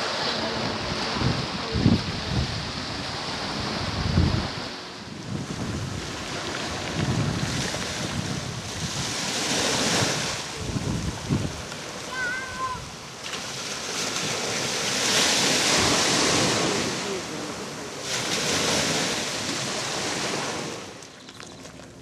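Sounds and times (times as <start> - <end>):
waves washing onto shingle: 0.0 - 22.0
wind buffeting microphone: 0.0 - 22.0.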